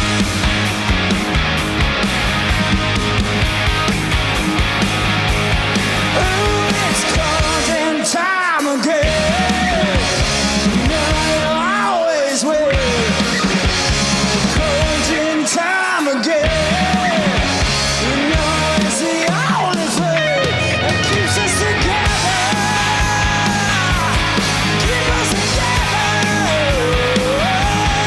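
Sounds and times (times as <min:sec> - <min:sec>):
swooping lead guitar notes: 0:00.0 - 0:08.0, 0:09.0 - 0:15.3, 0:16.4 - 0:28.0
rock band playing loudly: 0:00.0 - 0:28.0.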